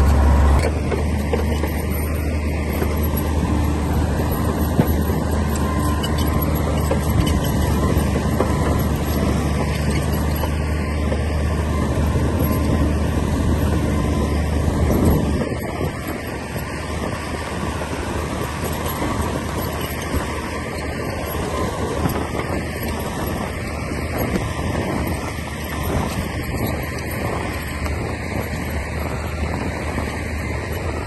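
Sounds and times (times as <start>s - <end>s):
bulldozer diesel engine droning: 0.0s - 31.0s.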